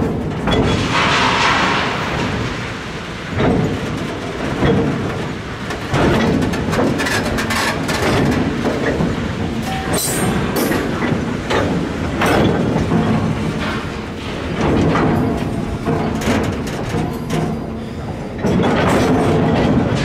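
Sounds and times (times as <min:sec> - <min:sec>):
wheels clacking over rail joints: 0:00.0 - 0:20.0
wheels rumbling on rail: 0:00.0 - 0:20.0.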